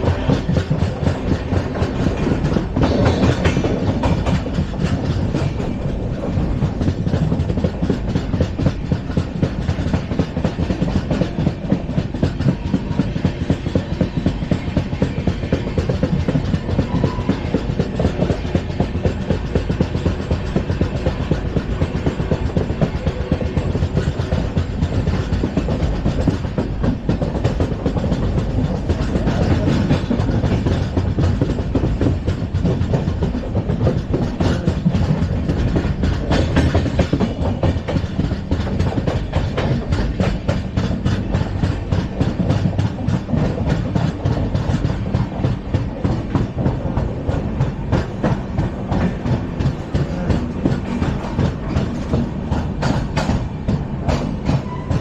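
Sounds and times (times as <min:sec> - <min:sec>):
clicks and rattles of coaches: 0:00.0 - 0:55.0
train wheels rumbling on rail: 0:00.0 - 0:55.0.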